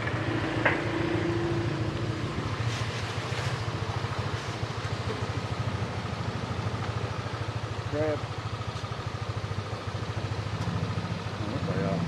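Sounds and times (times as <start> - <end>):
motorbike engine idling: 0.0 - 12.0.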